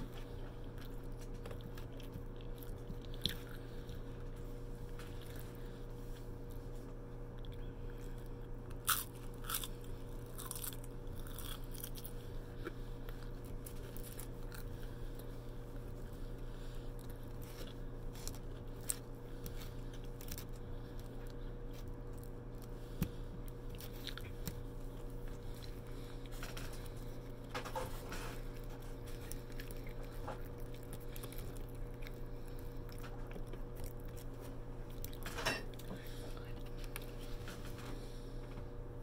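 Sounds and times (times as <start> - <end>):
crunchy chewing: 0.0 - 38.4
steady low hum: 0.0 - 39.0.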